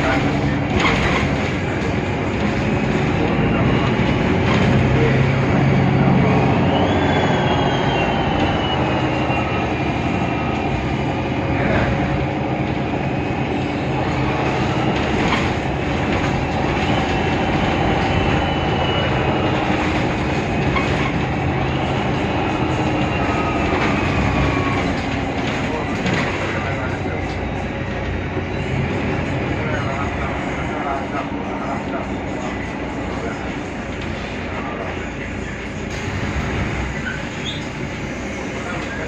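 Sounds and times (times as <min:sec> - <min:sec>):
bus engine rumbling: 0:00.0 - 0:39.0.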